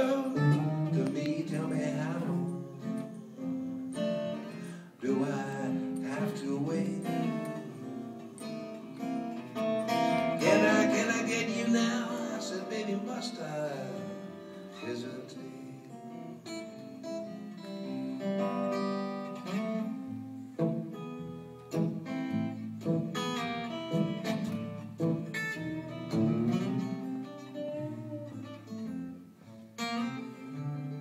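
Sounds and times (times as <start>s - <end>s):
acoustic guitars playing: 0.0s - 31.0s.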